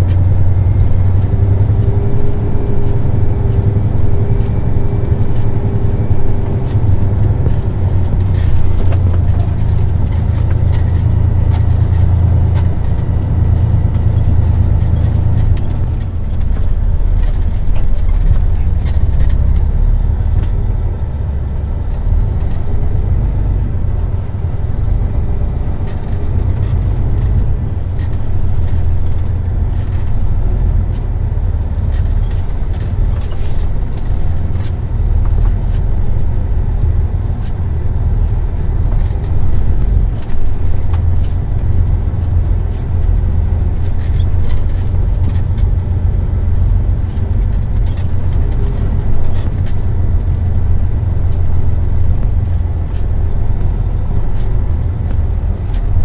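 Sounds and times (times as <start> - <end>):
diesel truck engine droning: 0.0 - 56.0
road rumble: 0.0 - 56.0.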